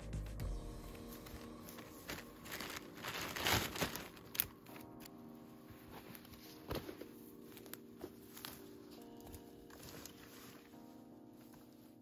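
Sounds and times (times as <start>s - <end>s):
faint background music: 0.0s - 12.0s
rustling and crackling: 0.9s - 12.0s.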